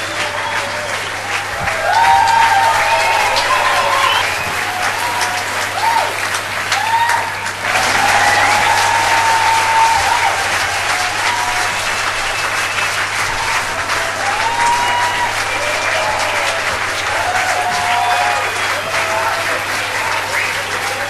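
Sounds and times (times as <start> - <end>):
audience applauding: 0.0 - 21.0
voices calling out and cheering: 0.0 - 21.0.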